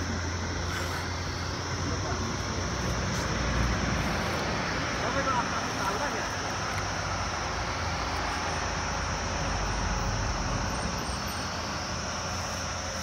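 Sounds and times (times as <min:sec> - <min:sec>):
steady hiss: 0:00.0 - 0:13.0
truck engine rumble: 0:00.0 - 0:13.0.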